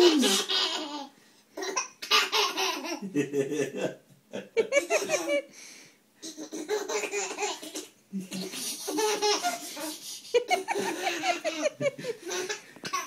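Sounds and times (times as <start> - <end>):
baby laughing: 0.0 - 3.2, 4.6 - 5.5, 6.2 - 13.0.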